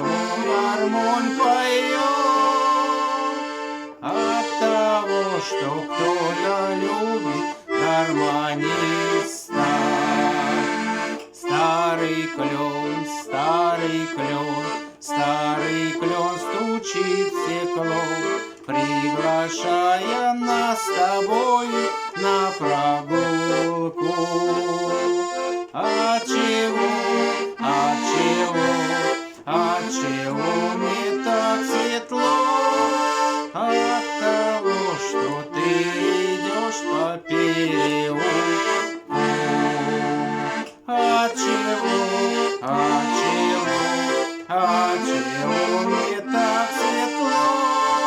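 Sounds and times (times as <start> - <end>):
accordion playing chords: 0.0 - 48.0
person singing: 0.0 - 48.0.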